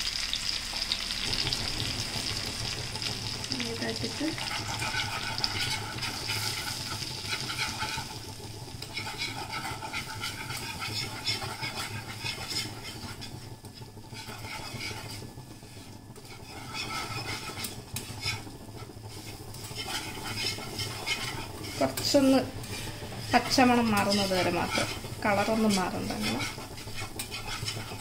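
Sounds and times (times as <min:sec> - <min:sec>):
whisk scraping frying pan: 0:00.2 - 0:28.0.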